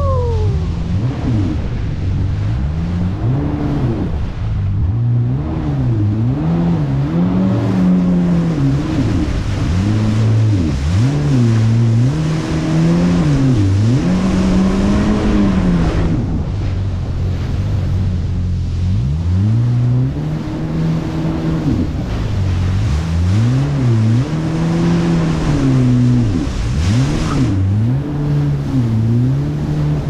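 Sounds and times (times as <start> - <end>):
jet ski engine revving: 0.0 - 30.0.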